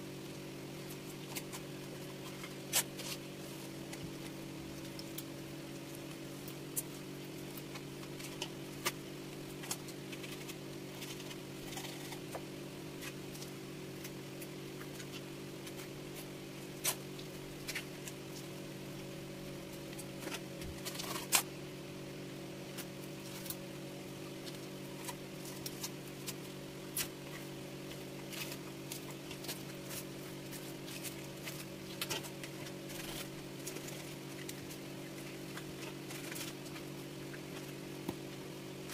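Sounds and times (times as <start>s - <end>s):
low electric hum: 0.0s - 38.9s.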